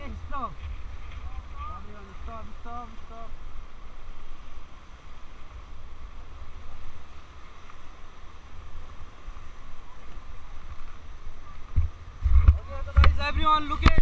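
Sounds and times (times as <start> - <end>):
whitewater rushing: 0.0 - 14.0
wind buffeting microphone: 0.0 - 14.0.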